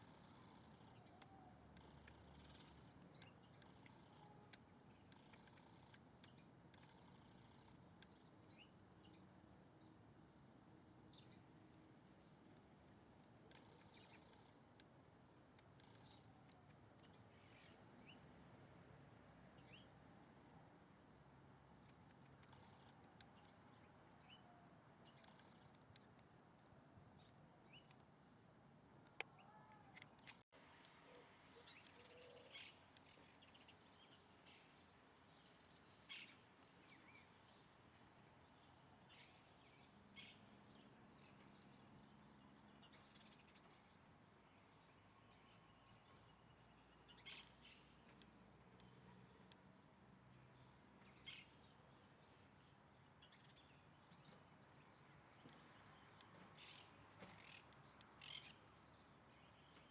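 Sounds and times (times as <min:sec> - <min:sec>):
low background hiss: 0:00.0 - 0:59.9.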